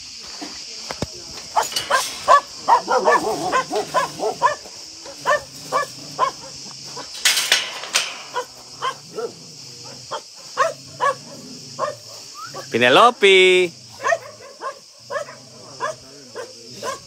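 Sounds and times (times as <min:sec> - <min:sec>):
dogs barking: 0:01.5 - 0:12.7, 0:13.8 - 0:17.0.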